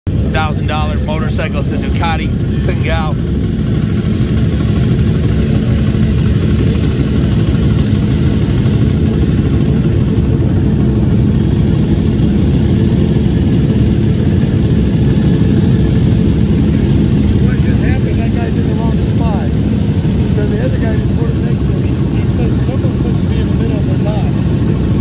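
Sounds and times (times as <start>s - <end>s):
motorcycle engines idling: 0.1s - 25.0s.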